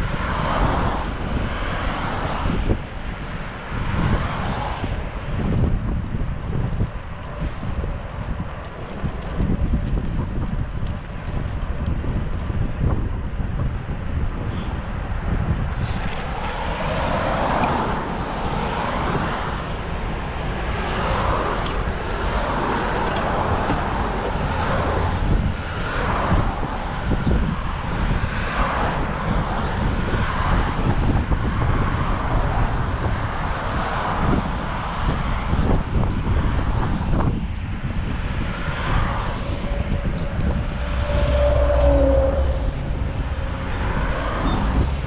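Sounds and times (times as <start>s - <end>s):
car traffic passing: 0.0s - 45.0s
wind rushing over microphone: 0.0s - 45.0s.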